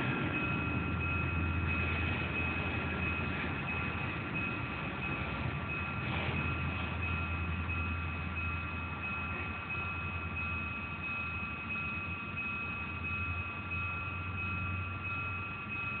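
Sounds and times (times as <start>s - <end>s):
diesel train rumble: 0.0s - 16.0s
crossing signal high-pitched tone: 0.3s - 16.0s.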